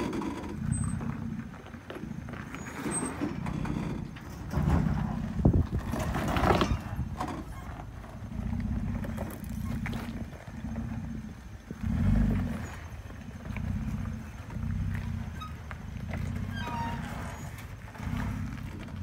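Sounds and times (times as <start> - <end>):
pickup engine rumbling: 0.0 - 19.0
tyres crunching on rocks: 0.0 - 19.0.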